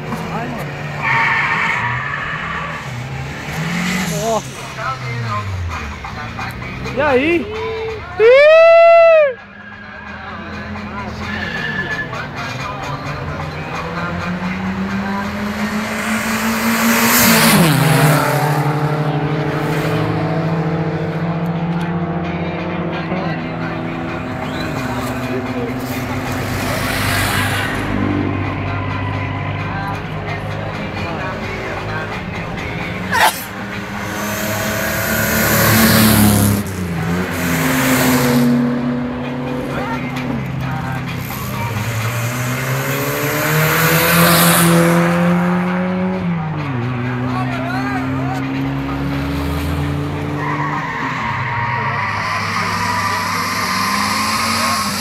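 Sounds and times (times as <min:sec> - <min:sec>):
racing car speeding past: 0:00.0 - 0:07.2, 0:09.2 - 0:55.0.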